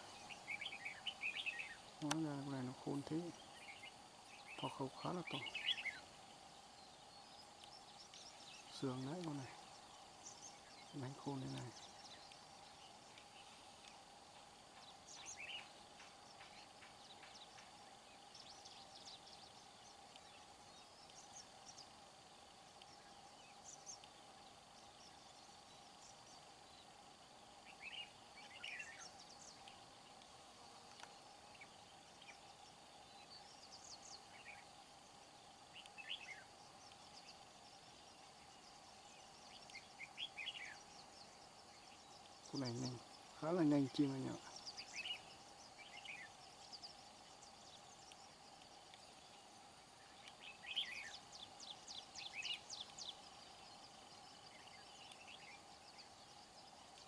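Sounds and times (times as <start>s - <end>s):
faint bird chirps: 0.0s - 57.0s
steady faint hum: 0.0s - 57.0s.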